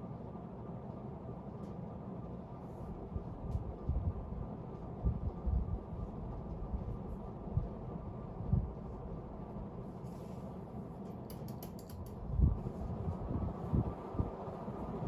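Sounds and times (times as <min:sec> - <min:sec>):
ceiling fan running: 0:02.6 - 0:15.0.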